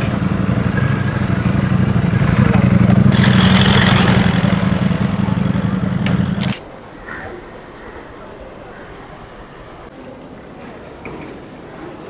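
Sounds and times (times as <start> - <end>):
motorcycle engine idling: 0.0 - 9.9.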